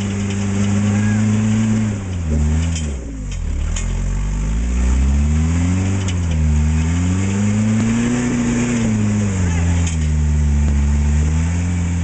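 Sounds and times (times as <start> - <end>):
truck engine revving under load: 0.0 - 12.0.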